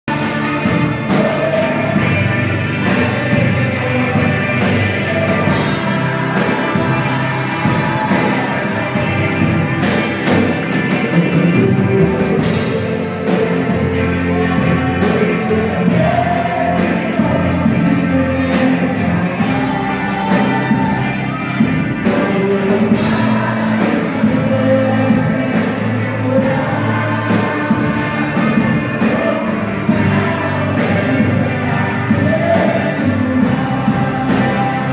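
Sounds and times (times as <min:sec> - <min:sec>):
person singing: 0:00.0 - 0:34.9
drum kit beat: 0:00.1 - 0:34.9.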